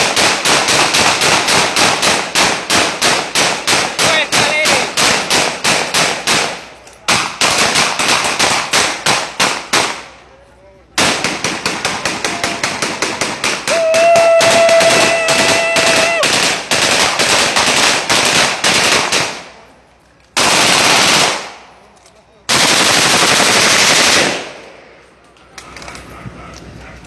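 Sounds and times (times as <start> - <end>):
automatic gunfire: 0.0 - 10.0, 11.0 - 19.5, 20.4 - 21.6, 22.5 - 24.6.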